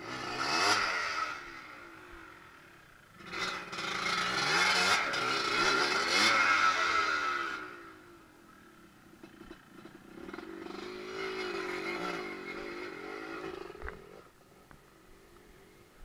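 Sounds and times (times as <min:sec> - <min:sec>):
dirt bike engine revving: 0:00.0 - 0:08.6, 0:09.2 - 0:14.4.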